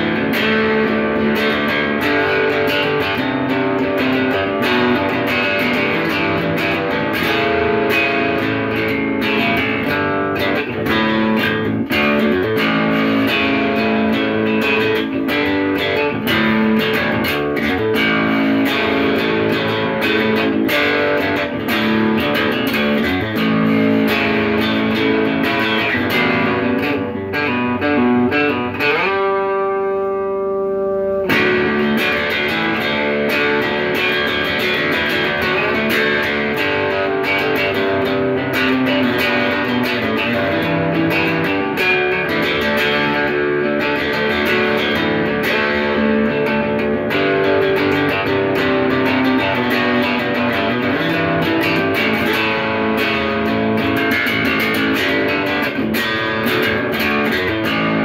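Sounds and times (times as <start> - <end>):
electric bass guitar notes: 0.0 - 58.0.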